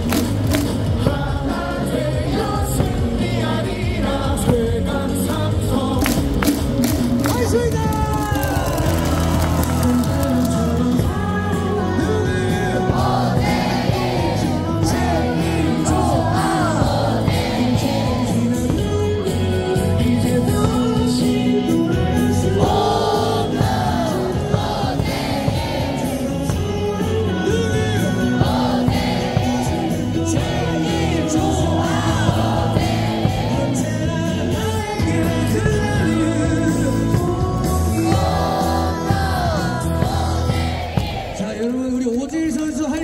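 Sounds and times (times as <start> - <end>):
crowd singing along: 0.0 - 7.2, 9.0 - 43.0
cheer song over stadium speakers: 0.0 - 43.0.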